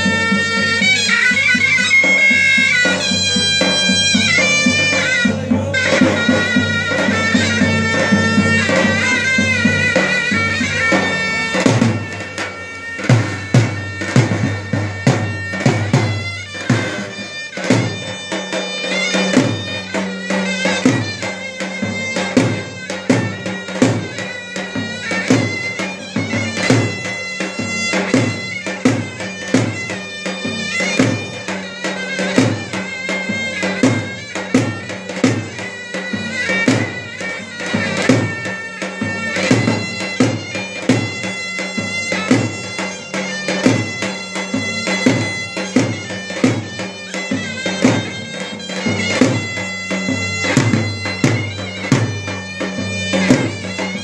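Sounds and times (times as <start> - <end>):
drum beats: 0.0 - 54.0
reedy wind instrument melody: 0.0 - 54.0.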